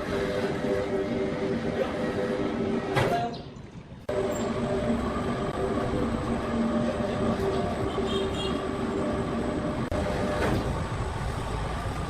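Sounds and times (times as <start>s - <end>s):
sawmill machinery drone: 0.0s - 3.0s, 4.1s - 12.0s.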